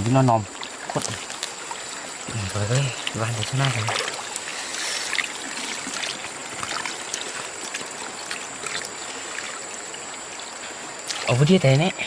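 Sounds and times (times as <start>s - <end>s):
small splashes: 0.0s - 11.8s
water running and trickling: 0.0s - 12.0s.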